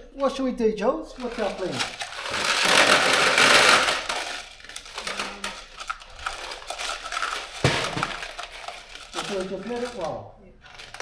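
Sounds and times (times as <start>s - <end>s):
metal fasteners rattling: 1.1s - 11.0s.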